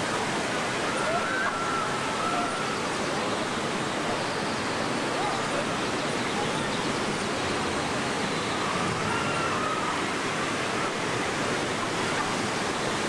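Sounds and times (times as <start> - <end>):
water rushing down rocks: 0.0 - 13.0.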